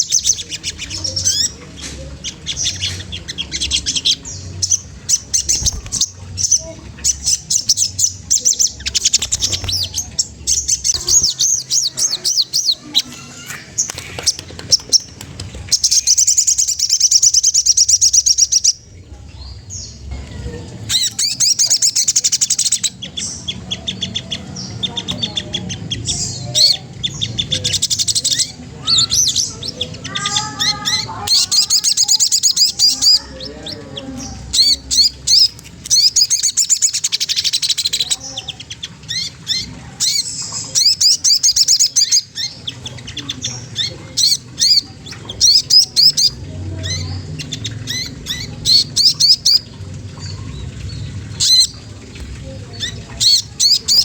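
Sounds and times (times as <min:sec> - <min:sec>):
songbird chirping trills: 0:00.0 - 0:54.0.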